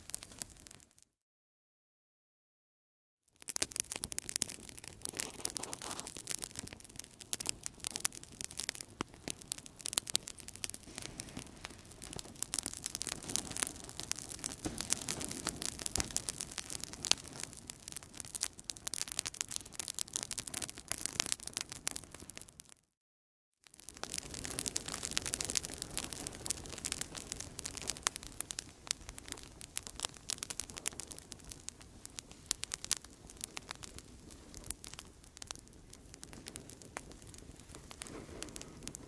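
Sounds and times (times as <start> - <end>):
campfire crackling: 0.0 - 0.8, 3.4 - 22.7, 23.8 - 39.0.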